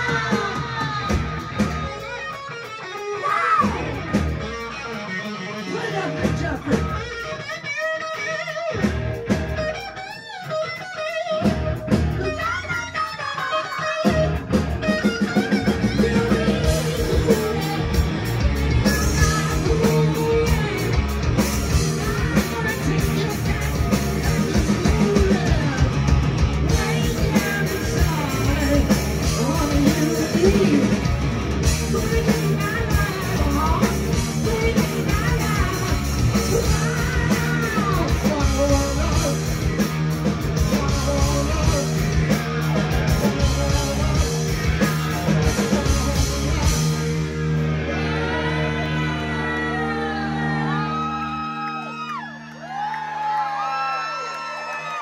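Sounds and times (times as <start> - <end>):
bass and drums: 0.0 - 54.0
electric guitars: 0.0 - 55.0
rock band playing loud: 0.0 - 55.0.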